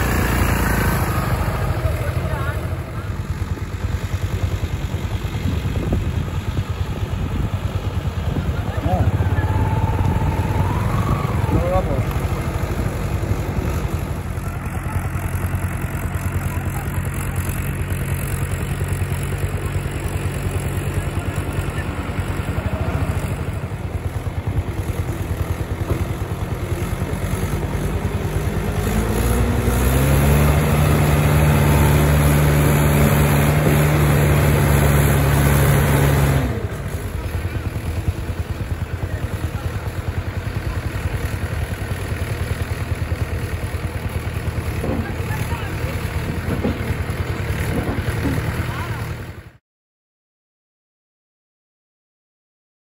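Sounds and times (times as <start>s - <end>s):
diesel tractor engine under load: 0.0s - 49.6s.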